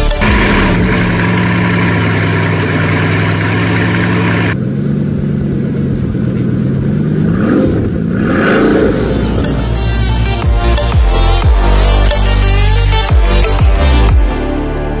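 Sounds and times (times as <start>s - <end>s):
car engine idling: 0.0s - 14.2s
car engine revving: 0.0s - 14.2s.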